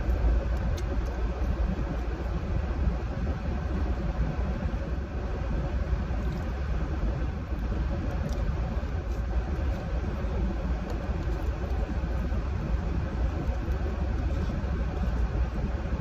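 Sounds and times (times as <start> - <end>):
air conditioning blower rush: 0.0 - 16.0.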